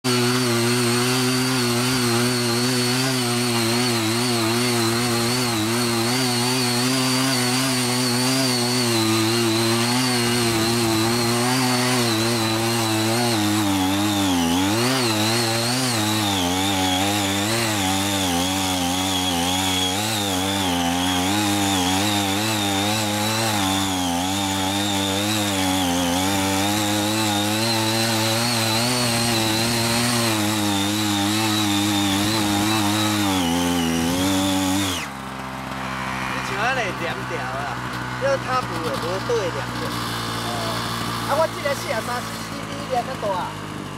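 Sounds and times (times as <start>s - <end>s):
tiller engine running: 0.0s - 43.9s
tilling blades working soil: 0.0s - 43.9s.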